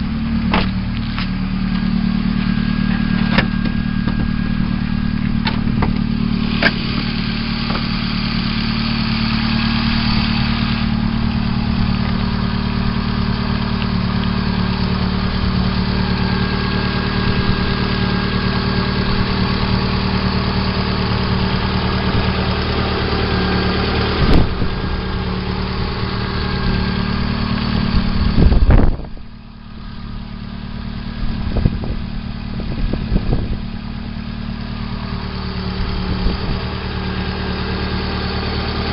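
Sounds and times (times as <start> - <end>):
car engine idling with knock: 0.0 - 38.9
loud rumble: 0.0 - 38.9.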